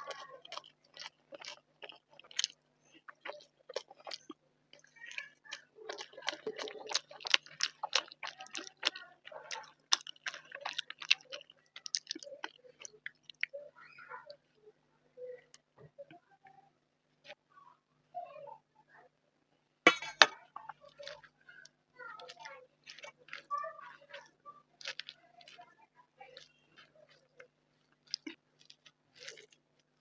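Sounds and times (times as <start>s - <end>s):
close chewing with mouth sounds: 0.0s - 14.6s, 19.9s - 30.0s.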